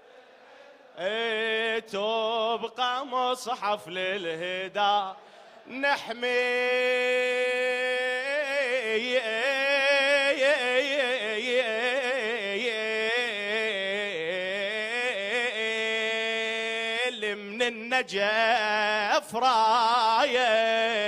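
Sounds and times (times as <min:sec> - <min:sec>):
man singing an elegy: 0:01.0 - 0:21.0.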